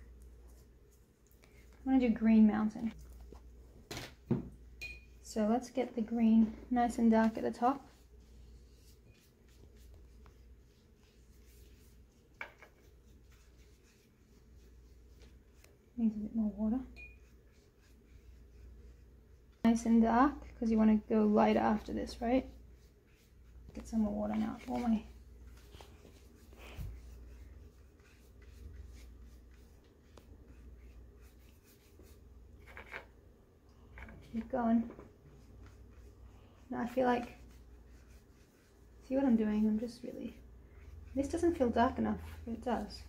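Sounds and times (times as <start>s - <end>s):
paintbrush strokes on paper: 0.0s - 3.8s, 5.1s - 33.2s, 34.0s - 43.0s.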